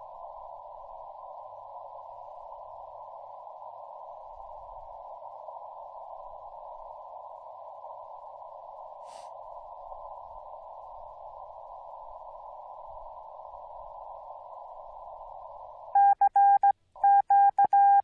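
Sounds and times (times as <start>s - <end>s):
radio receiver hiss: 0.0s - 16.0s.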